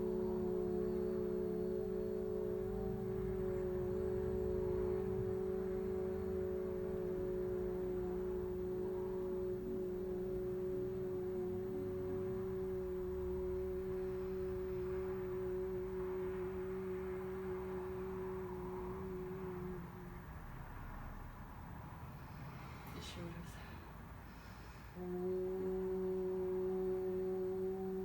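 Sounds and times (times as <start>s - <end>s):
group of voices singing oo: 0.0s - 21.1s, 24.6s - 28.0s.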